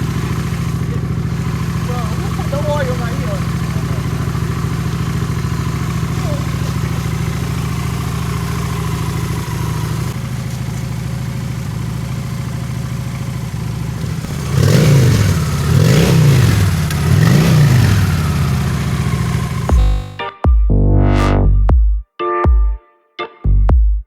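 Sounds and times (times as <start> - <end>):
motorcycle engine idling and revving: 0.0 - 20.2.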